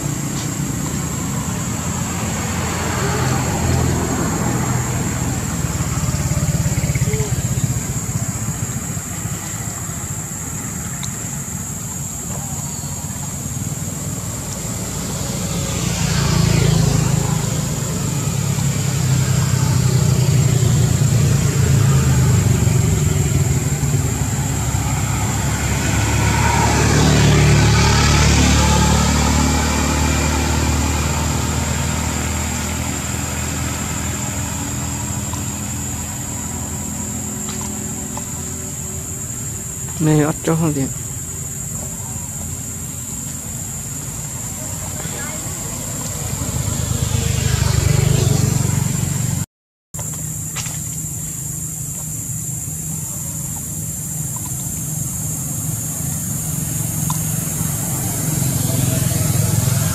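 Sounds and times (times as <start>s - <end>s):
motor engine humming: 0.0s - 49.4s, 50.0s - 59.9s.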